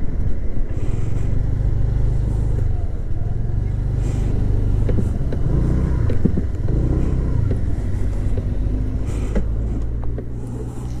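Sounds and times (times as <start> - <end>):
scooter engine running: 0.8 - 11.0.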